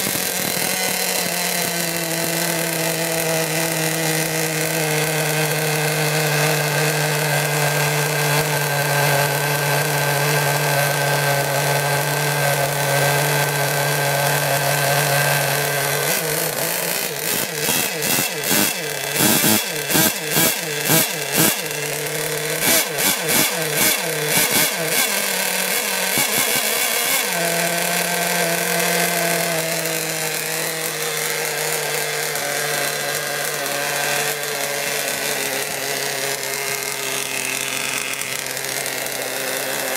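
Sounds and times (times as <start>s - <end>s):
nitro boat engine running: 0.0s - 39.9s.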